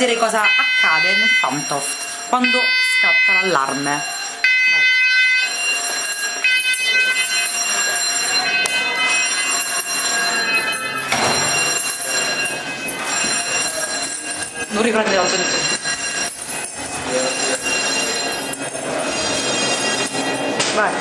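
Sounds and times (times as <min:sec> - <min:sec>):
fire alarm electronic tone: 0:00.0 - 0:20.6.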